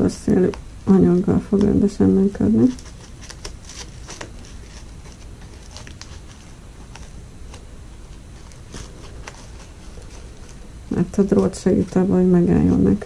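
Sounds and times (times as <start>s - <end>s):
ribbon rustling and crinkling: 0.0s - 13.0s.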